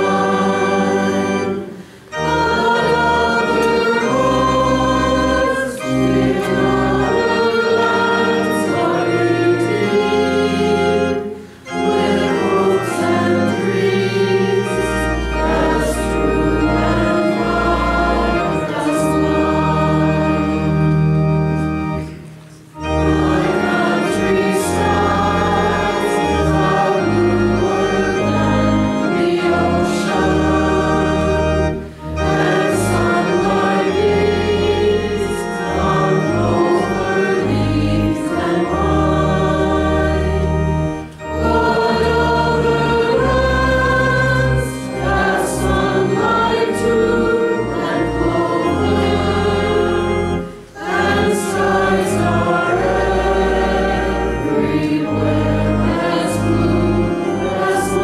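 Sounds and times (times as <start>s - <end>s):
mixed choir singing a hymn: 0.0s - 58.0s
organ accompaniment: 0.0s - 58.0s.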